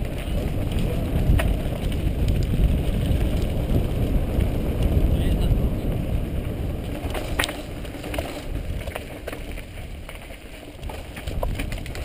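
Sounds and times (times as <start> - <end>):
bike rattling over stones: 0.0 - 12.0
bike rolling over stony trail: 0.0 - 12.0.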